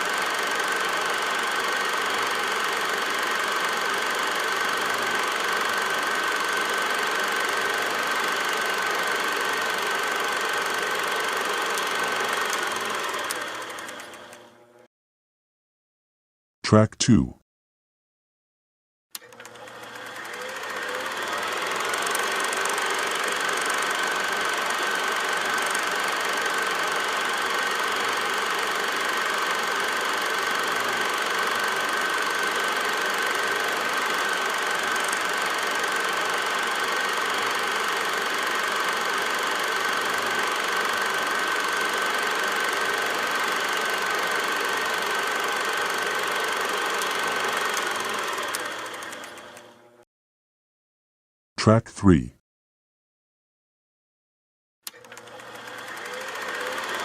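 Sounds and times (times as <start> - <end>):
film projector whirring: 0.0 - 14.9, 19.2 - 50.0, 54.9 - 57.0.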